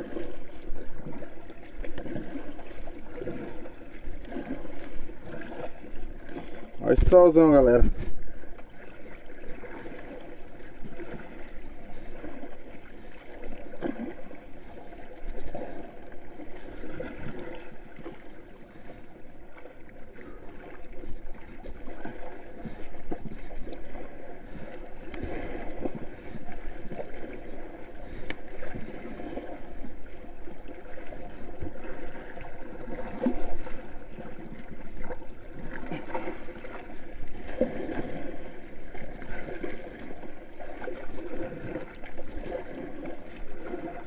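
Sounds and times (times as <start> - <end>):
sea water lapping against board: 0.0 - 44.0.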